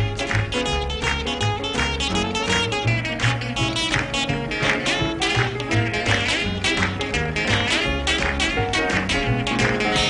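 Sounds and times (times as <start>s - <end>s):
band playing gospel music: 0.0s - 10.0s
electric guitar lead line: 0.0s - 10.0s.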